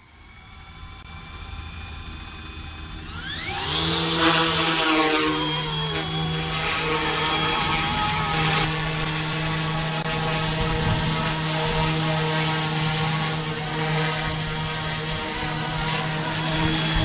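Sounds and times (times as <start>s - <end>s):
electric motor whine: 0.0s - 17.0s
helicopter rotor hum: 0.0s - 17.0s.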